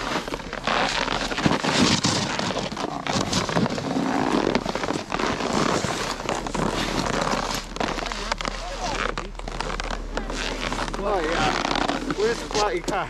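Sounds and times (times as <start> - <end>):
snowboards scraping over snow: 0.0 - 13.0.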